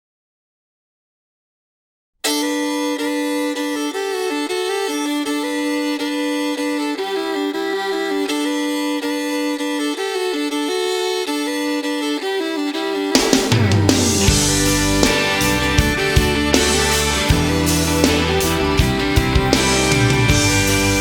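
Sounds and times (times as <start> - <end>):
country fiddle melody: 2.2 - 21.0.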